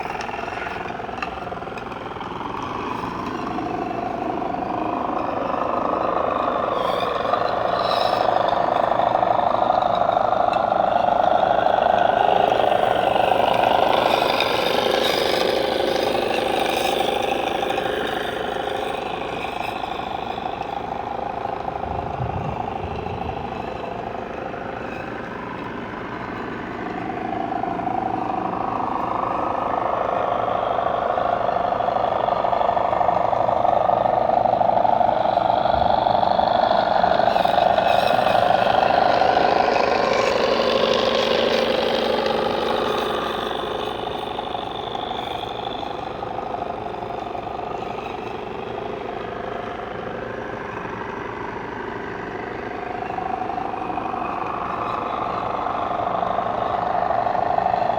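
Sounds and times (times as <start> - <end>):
engine passing by: 0.0 - 48.9.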